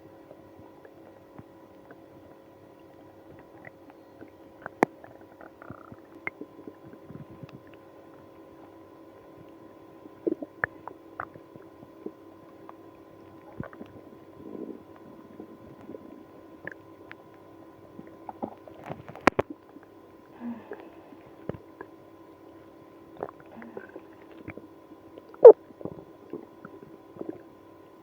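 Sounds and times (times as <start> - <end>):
stomach gurgling: 0.0 - 27.9
steady background hum: 0.0 - 28.0.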